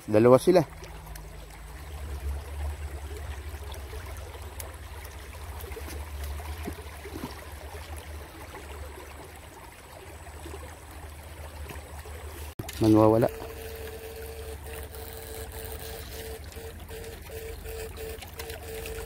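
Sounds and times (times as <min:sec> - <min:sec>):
stream trickling around rocks: 0:00.0 - 0:19.0.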